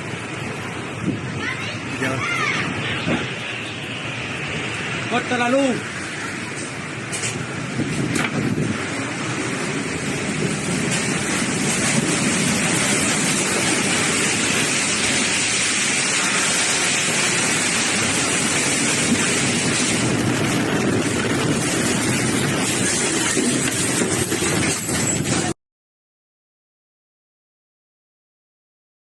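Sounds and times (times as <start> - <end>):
driving rain: 0.0 - 25.6
tornado winds: 0.0 - 25.6
wind buffeting microphone: 0.0 - 25.6.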